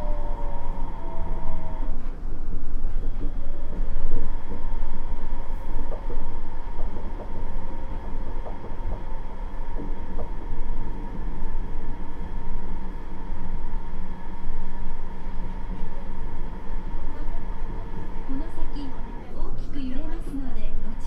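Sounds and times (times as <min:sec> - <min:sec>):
drive whine: 0:00.0 - 0:21.0
train rumble: 0:00.0 - 0:21.0.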